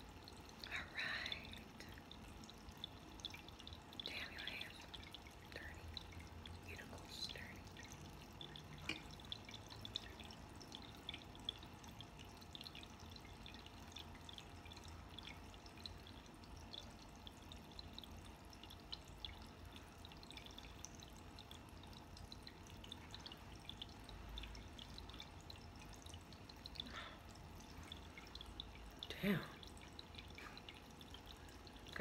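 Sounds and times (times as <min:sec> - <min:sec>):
water fountain trickling: 0:00.0 - 0:32.0.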